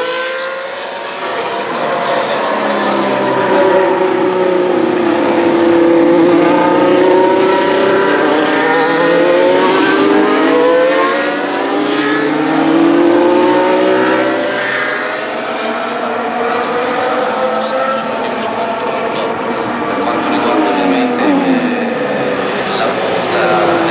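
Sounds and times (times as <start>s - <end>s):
race car engines at speed: 0.0s - 23.9s.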